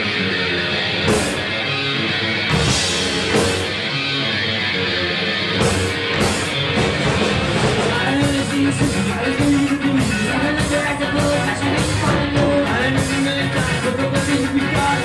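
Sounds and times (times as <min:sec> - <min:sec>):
ska punk band playing live: 0:00.0 - 0:15.0.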